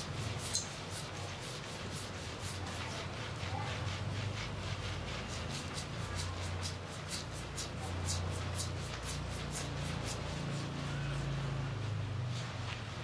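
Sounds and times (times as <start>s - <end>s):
fingers scrubbing lathered scalp: 0.0s - 12.6s.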